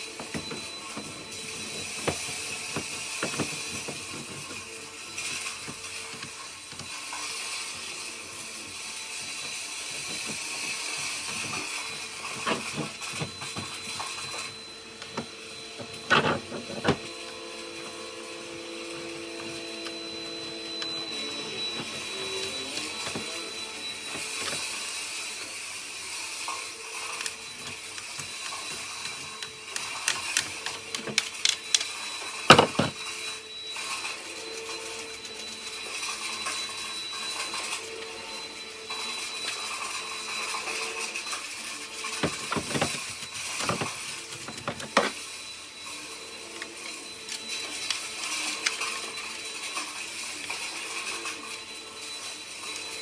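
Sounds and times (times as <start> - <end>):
small motor running: 0.0 - 53.0.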